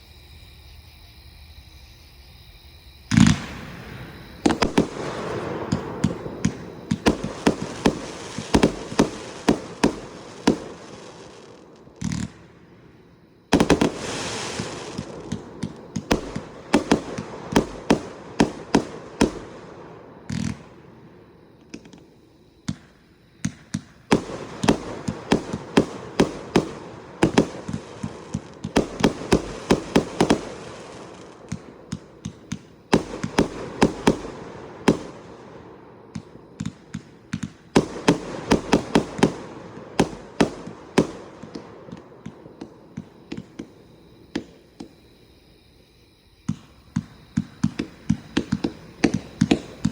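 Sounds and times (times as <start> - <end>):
firework crackle: 3.1 - 12.8, 13.5 - 20.8, 22.7 - 43.8, 47.0 - 49.9
firework volleys of sharp shots: 3.1 - 21.0, 22.6 - 44.9, 46.5 - 49.9.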